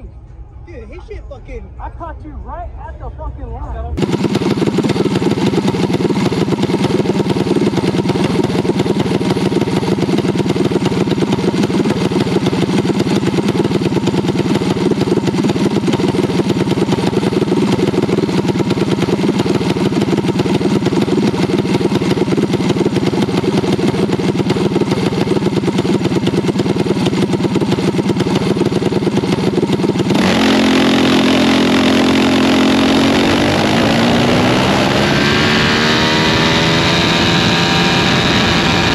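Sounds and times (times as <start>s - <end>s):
mini bike engine running hard: 4.0s - 38.9s.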